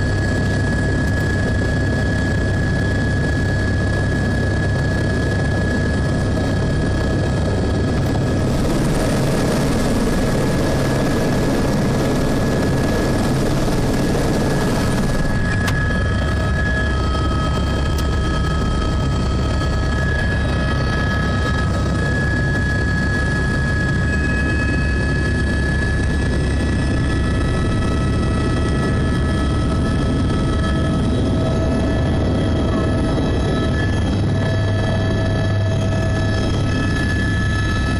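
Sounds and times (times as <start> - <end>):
helicopter turbine and rotor: 0.0 - 37.9.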